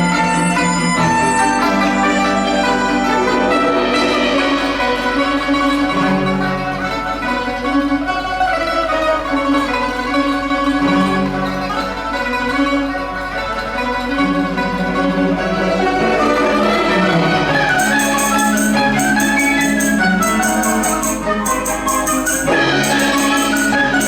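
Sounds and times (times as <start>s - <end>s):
bowed erhu: 0.0s - 24.0s
low cello notes: 0.0s - 24.0s
plucked pipa: 0.0s - 24.0s
struck yangqin: 0.0s - 24.0s
zhongruan: 0.0s - 24.0s.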